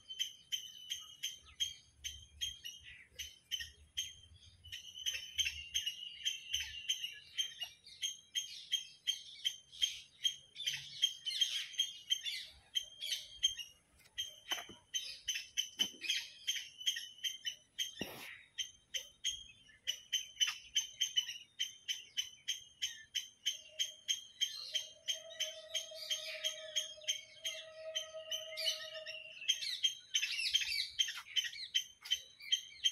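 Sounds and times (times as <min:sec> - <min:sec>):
bird chirping rapidly: 0:00.0 - 0:32.9.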